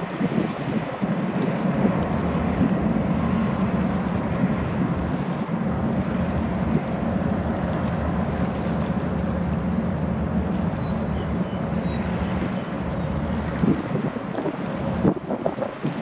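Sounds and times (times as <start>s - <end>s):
rush of water and wind: 0.0s - 16.0s.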